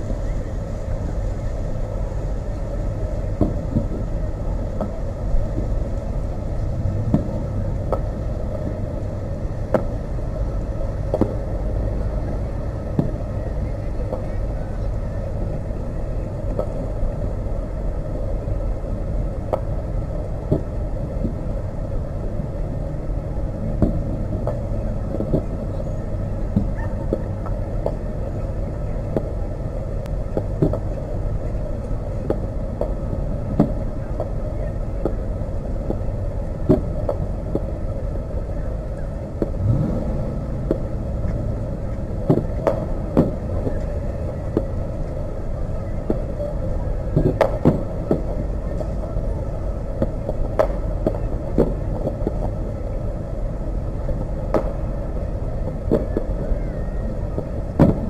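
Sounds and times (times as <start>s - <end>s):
distant fireworks bursting: 0.0s - 58.0s
low rumble: 0.0s - 58.0s.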